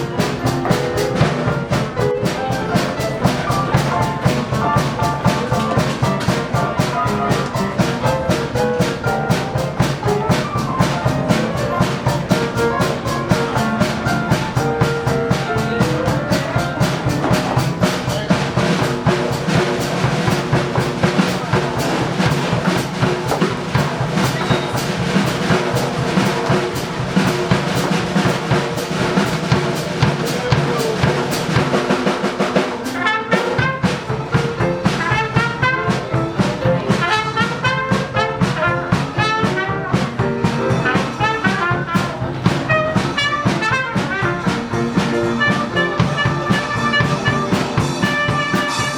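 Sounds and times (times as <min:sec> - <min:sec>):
jazz band playing: 0:00.0 - 0:48.9
steady drum beat: 0:00.0 - 0:48.9
vibrato horn melody: 0:00.0 - 0:48.9.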